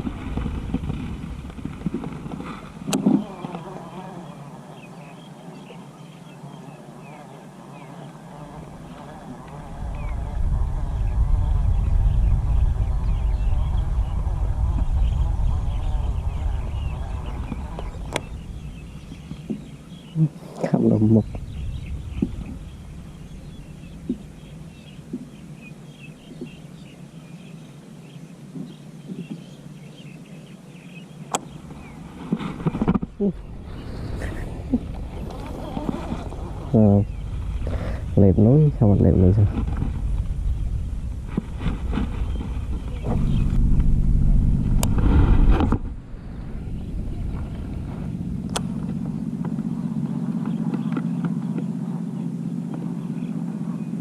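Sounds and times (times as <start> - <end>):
small engine droning: 0.0 - 28.7, 31.2 - 54.0
small birds chirping: 1.7 - 43.9, 46.2 - 54.0.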